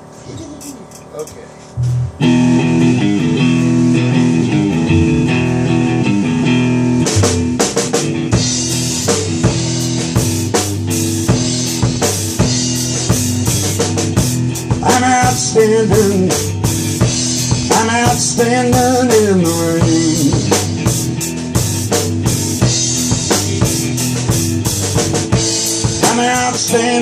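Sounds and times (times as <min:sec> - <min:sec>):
drum kit playing: 0:01.8 - 0:27.0
electric guitar and bass chords: 0:01.8 - 0:27.0.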